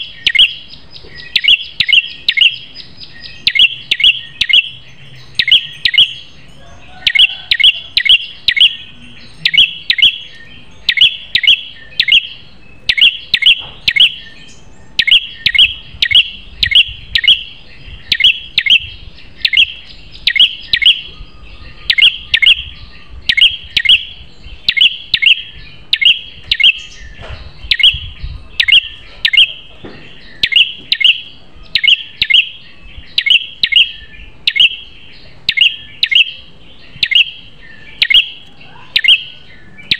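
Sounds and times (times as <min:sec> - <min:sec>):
small bird sharp high chirps: 0:00.0 - 0:06.4, 0:07.1 - 0:39.9.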